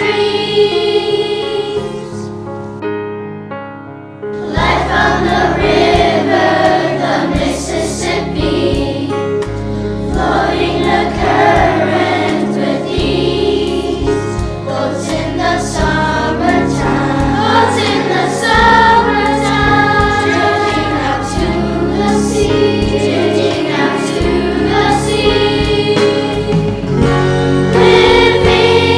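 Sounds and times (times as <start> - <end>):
children singing in chorus: 0.0 - 2.3, 4.4 - 9.2, 10.0 - 26.9, 27.8 - 28.9
instrumental accompaniment: 0.0 - 28.9.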